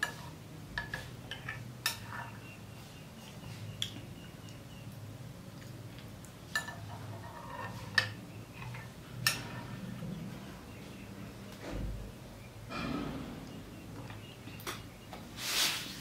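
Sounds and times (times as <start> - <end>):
low steady hum: 0.0 - 15.4.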